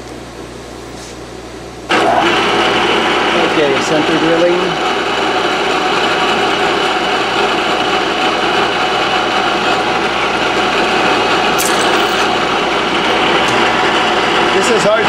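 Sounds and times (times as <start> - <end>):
drill cutting steel: 1.9 - 15.0
milling machine spindle running: 1.9 - 15.0.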